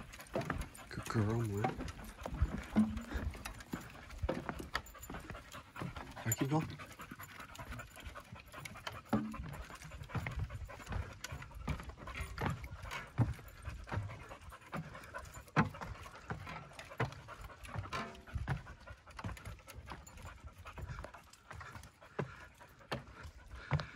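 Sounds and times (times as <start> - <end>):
dog panting: 0.0 - 23.9
footsteps on wooden stairs: 0.0 - 23.9.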